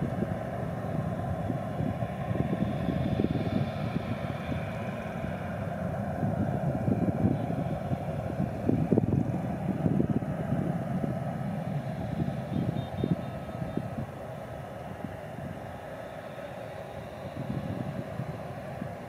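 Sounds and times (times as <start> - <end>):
distant jet engines rumbling: 0.0 - 19.0
wind buffeting microphone: 0.0 - 19.0.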